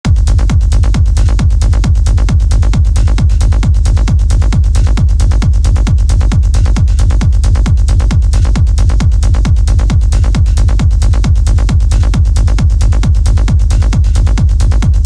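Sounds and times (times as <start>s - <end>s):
deep bass: 0.0s - 15.0s
techno kick drum: 0.0s - 15.0s
fast hi-hat ticks: 0.1s - 15.0s.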